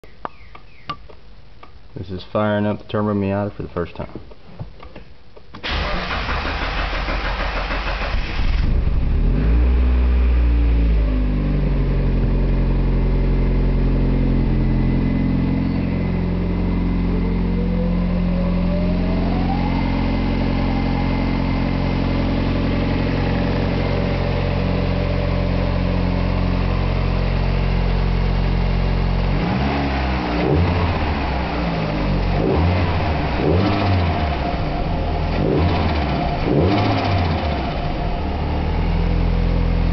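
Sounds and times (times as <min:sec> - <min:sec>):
car engine idling and revving: 0:05.6 - 0:39.9.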